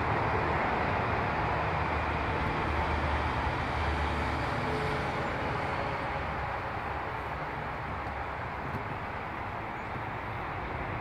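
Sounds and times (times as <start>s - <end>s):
outdoor rumble and hiss: 0.0s - 11.0s.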